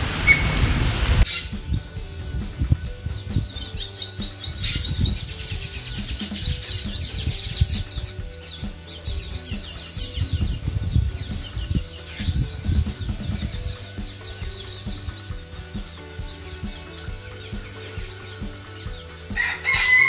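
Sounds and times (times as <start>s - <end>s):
soft background music: 0.0s - 20.0s
small birds chirping in trills: 1.2s - 20.0s.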